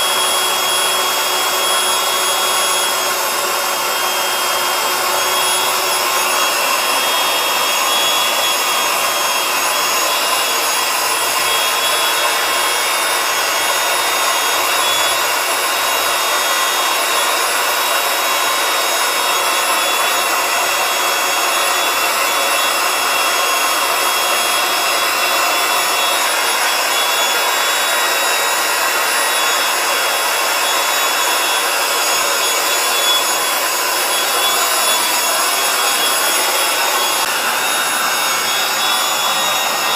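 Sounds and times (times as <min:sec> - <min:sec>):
electric air pump whirring: 0:00.0 - 0:39.9.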